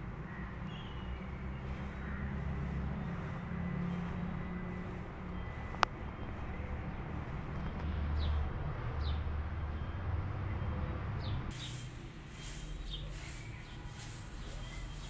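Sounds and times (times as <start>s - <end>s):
low outdoor rumble: 0.0s - 15.0s
small bird chirping: 0.0s - 15.0s.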